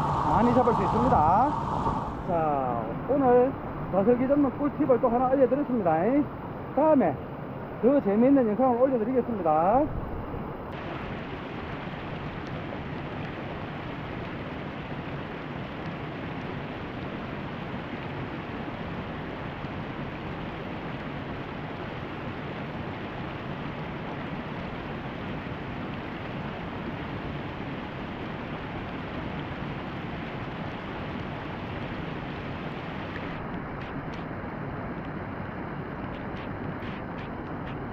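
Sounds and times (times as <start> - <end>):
water rushing over a weir: 0.0 - 6.0, 10.4 - 37.9.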